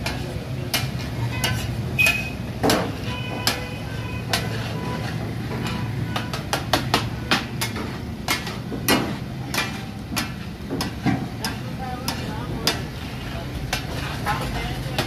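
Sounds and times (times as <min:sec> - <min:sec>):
steel spatulas clanking on griddle: 0:00.0 - 0:15.0.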